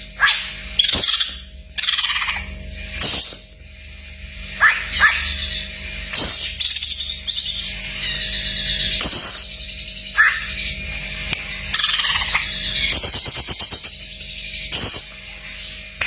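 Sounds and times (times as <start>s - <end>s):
bird singing varied song: 0.0s - 16.0s.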